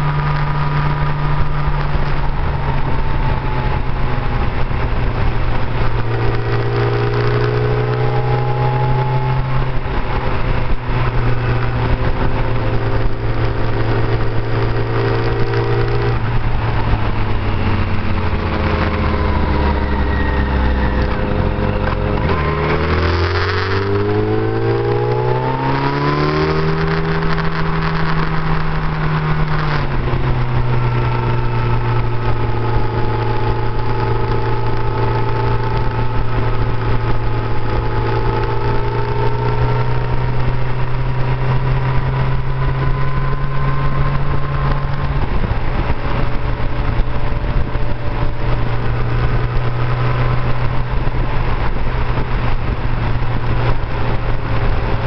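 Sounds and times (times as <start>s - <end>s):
motorcycle engine accelerating: 0.0s - 55.0s
wind and road noise: 0.0s - 55.0s.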